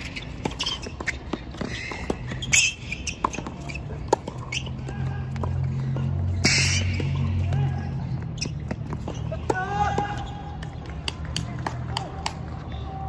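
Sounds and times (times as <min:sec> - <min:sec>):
shoes squeaking on court: 0:00.0 - 0:11.0.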